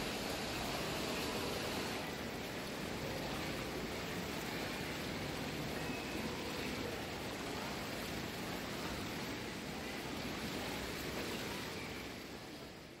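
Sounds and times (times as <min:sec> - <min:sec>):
rushing hiss of moving water: 0:00.0 - 0:13.0.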